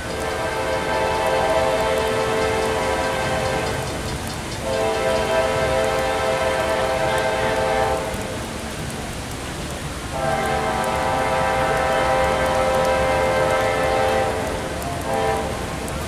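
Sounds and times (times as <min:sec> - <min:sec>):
rain hiss: 0:00.0 - 0:16.0
locomotive air horn blasts: 0:00.1 - 0:03.8, 0:04.6 - 0:08.4, 0:10.1 - 0:16.0.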